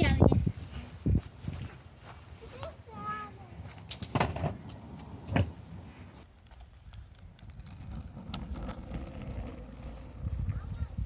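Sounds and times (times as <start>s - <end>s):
skateboard rolling on pavement: 0.5s - 11.0s.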